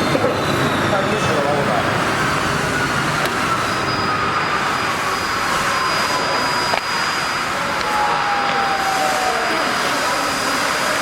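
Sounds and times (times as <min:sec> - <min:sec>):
cutting machine rushing noise: 0:00.0 - 0:11.0
thin motor whine: 0:00.0 - 0:11.0.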